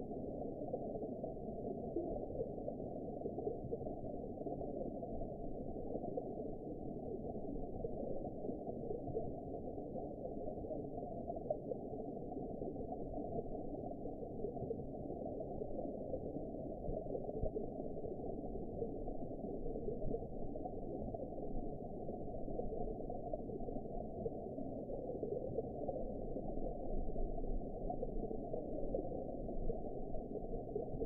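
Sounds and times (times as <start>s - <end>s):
muffled underwater rushing water: 0.0s - 31.0s.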